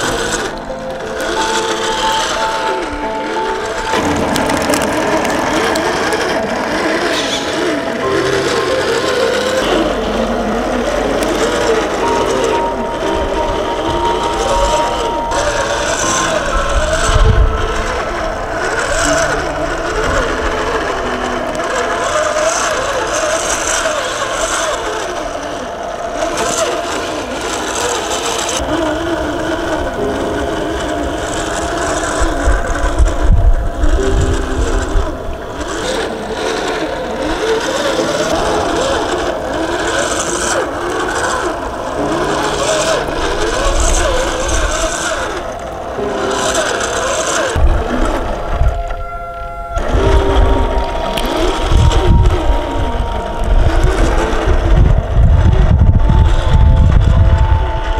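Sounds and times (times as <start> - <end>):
electric motor whining: 0.0 - 57.9.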